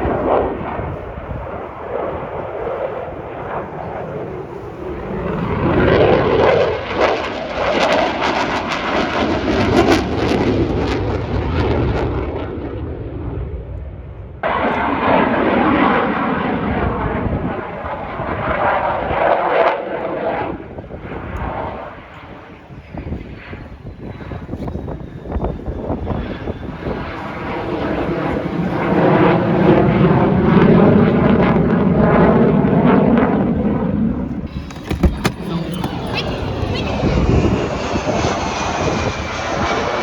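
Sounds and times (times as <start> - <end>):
military aircraft engine flypast: 0.0 - 40.0.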